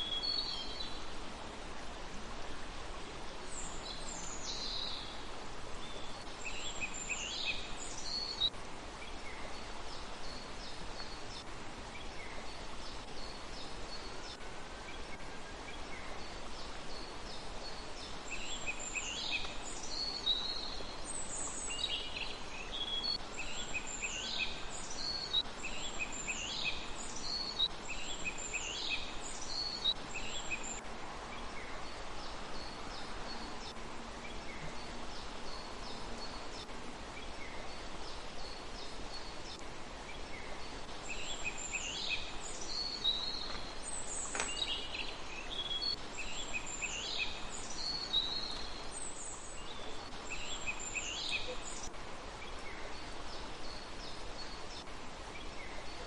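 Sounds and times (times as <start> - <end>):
steady hiss: 0.0 - 56.0
small birds calling: 3.5 - 56.0.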